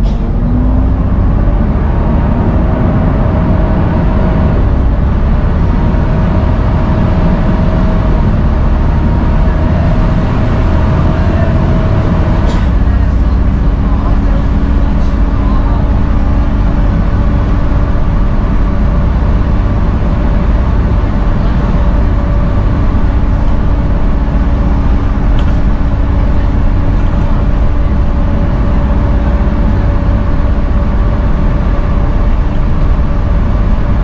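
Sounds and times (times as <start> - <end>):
bus diesel engine drone: 0.0 - 34.0
high whine: 0.0 - 34.0
road rumble: 0.0 - 34.0.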